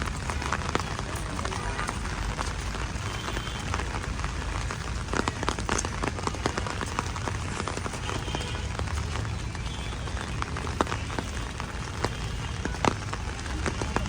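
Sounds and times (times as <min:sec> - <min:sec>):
heavy rain hissing: 0:00.0 - 0:14.0
raindrops ticking close by: 0:00.0 - 0:14.0.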